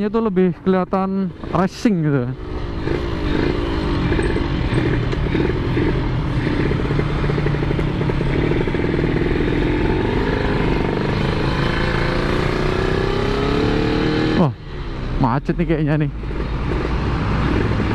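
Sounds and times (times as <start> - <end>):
motorcycle two-stroke engine running: 1.3 - 14.4, 16.1 - 17.9.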